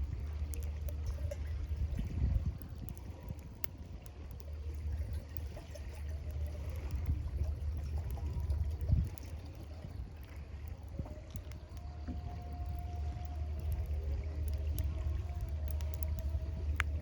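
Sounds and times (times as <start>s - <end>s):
faint clicks: 0.0s - 5.6s, 6.3s - 17.0s
river water flowing: 3.4s - 17.0s.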